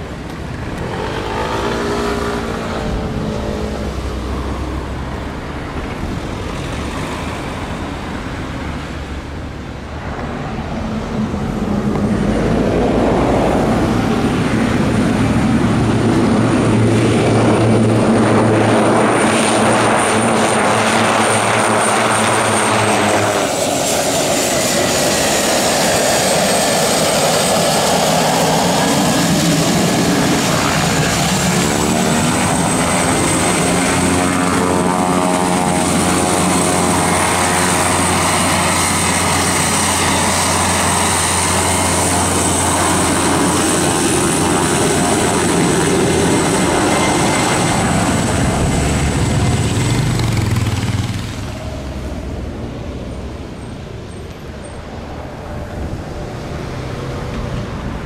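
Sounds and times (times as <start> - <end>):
high turbine whine: 0.0 - 58.0
propeller drone: 0.0 - 58.0.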